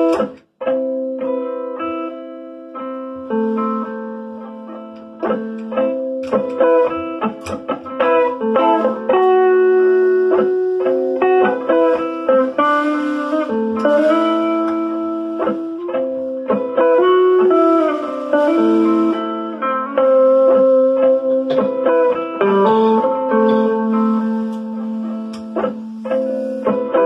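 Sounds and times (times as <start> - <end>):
electric guitar melody: 0.0 - 27.0
drum kit playing: 5.0 - 27.0.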